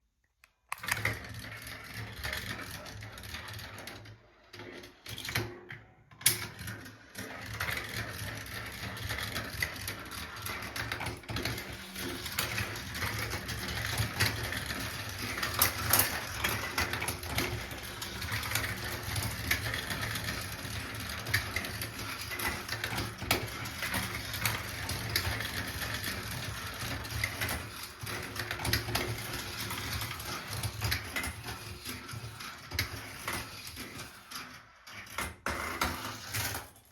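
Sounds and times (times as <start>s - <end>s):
marbles rolling on plastic track: 0.8s - 36.9s.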